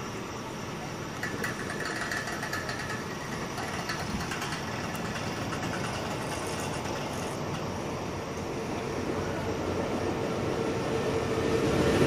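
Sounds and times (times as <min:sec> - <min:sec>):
locomotive engine rumbling: 0:00.0 - 0:12.0.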